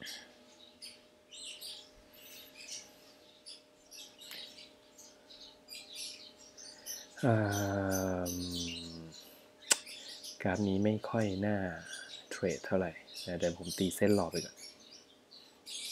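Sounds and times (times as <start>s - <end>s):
faint steady hum: 0.0s - 15.9s
small birds chirping: 0.0s - 15.9s.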